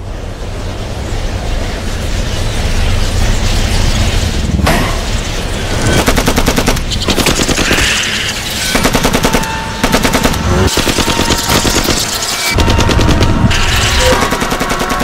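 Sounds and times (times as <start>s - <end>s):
low rumble: 0.0s - 14.5s.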